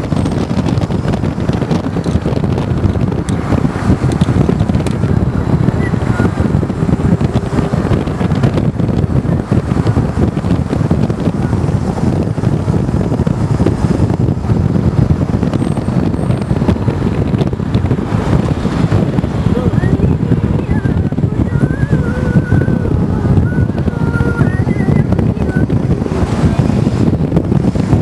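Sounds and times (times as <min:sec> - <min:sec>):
car road and engine noise: 0:00.0 - 0:28.0
wind on microphone: 0:00.0 - 0:28.0.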